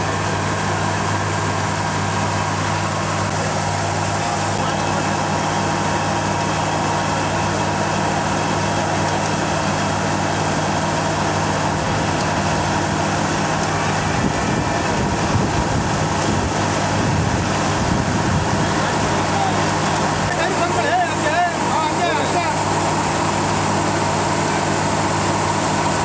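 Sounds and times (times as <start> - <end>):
engine hum: 0.0 - 26.0
harvester machinery noise: 0.0 - 26.0.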